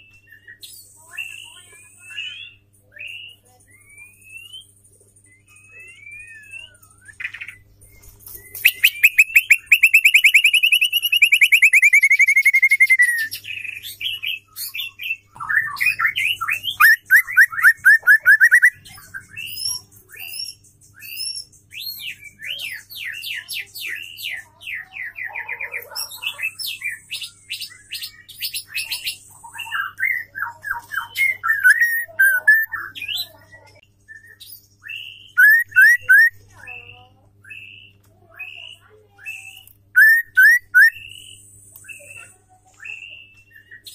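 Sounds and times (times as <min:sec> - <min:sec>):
bird singing trills and whistles: 0:00.0 - 0:43.9.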